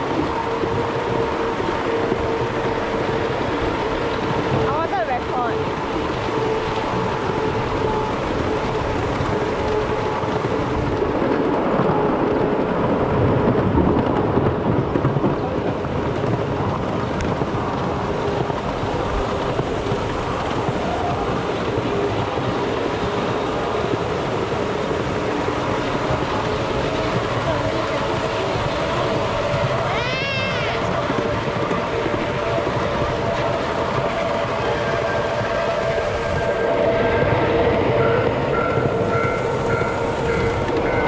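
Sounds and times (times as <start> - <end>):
wheels rumbling on rails: 0.0 - 41.0.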